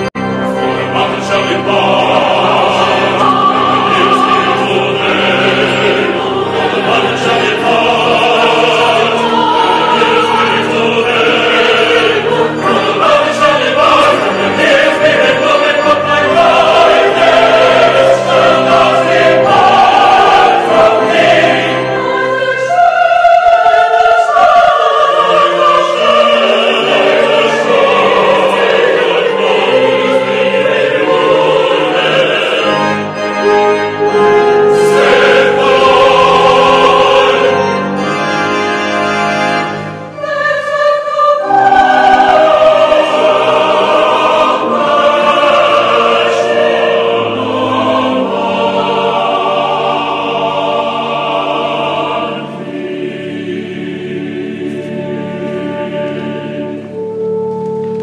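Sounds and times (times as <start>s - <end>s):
choir singing an anthem: 0.0s - 57.8s
pipe organ chords: 0.0s - 58.0s.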